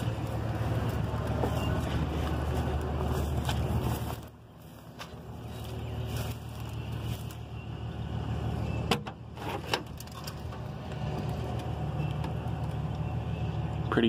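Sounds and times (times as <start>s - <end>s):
low vehicle engine rumble: 0.0s - 14.0s.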